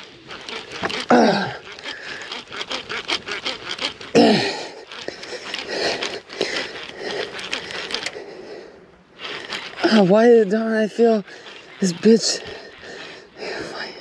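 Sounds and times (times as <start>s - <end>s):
fishing gear handling noise: 0.0s - 14.0s
small irregular clicks: 0.0s - 14.0s.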